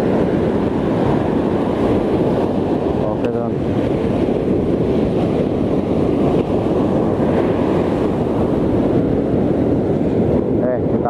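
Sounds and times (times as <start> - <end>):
ocean surf breaking: 0.0 - 11.0
wind buffeting the microphone: 0.0 - 11.0.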